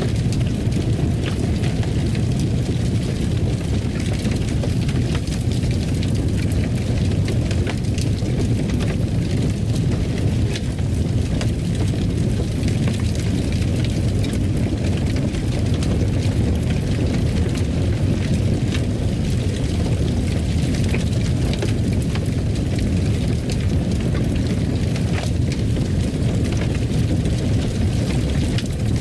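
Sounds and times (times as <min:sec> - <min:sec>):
fire crackling in a fireplace: 0:00.0 - 0:29.0.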